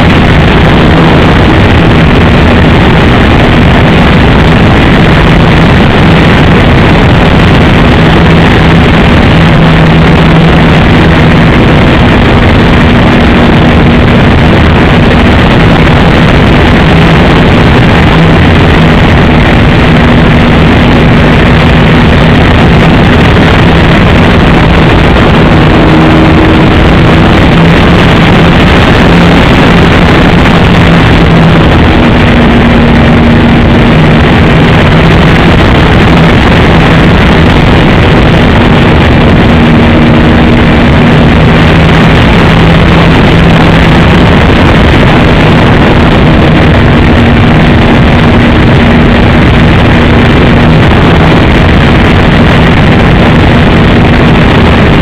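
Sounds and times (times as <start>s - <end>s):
model airplane engine droning: 0.0s - 55.0s.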